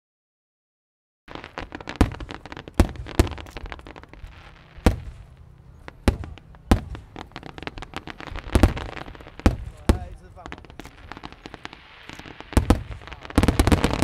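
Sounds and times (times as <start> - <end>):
crackling pops: 1.3 - 14.0
fireworks bangs: 1.3 - 14.0.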